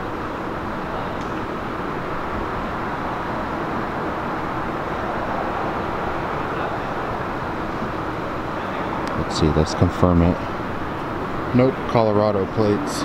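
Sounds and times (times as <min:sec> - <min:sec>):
traffic hum and rush: 0:00.0 - 0:13.0.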